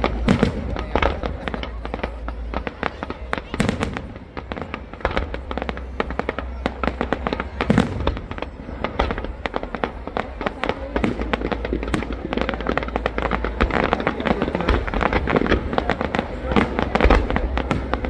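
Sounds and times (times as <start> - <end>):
fireworks bangs and crackles: 0.0 - 18.0
heavy firework boom: 0.0 - 18.0.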